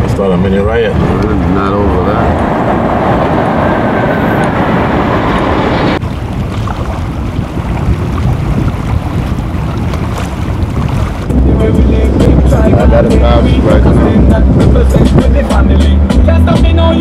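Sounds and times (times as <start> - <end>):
wind buffeting microphone: 0.0 - 15.8
vehicle engine and road noise: 0.0 - 17.0.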